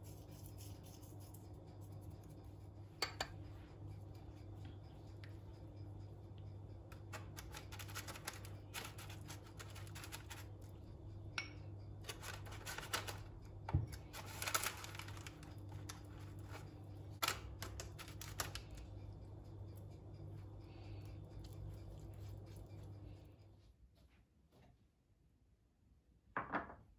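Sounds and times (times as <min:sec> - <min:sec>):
light crisp clicks and scrapes: 0:00.0 - 0:10.9, 0:12.0 - 0:23.5
steady low hum: 0:00.0 - 0:24.6.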